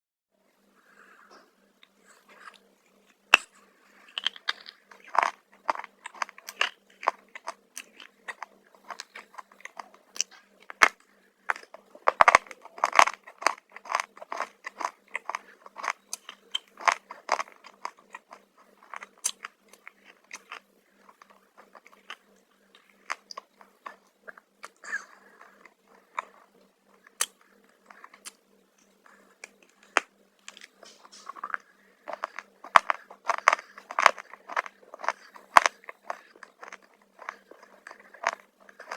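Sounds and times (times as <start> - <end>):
person chewing crunchy chips: 3.3 - 38.9.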